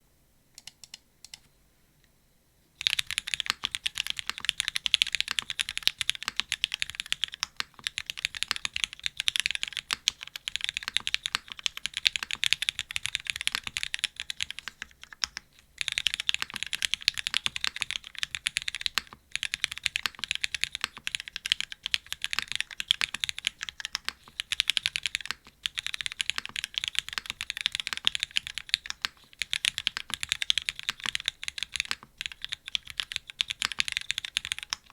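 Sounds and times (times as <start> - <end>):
mechanical keyboard typing: 0.6 - 1.5, 2.8 - 34.9.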